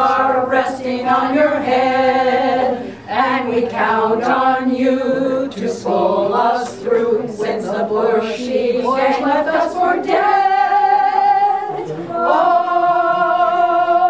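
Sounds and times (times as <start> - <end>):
women singing unaccompanied: 0.0 - 14.0.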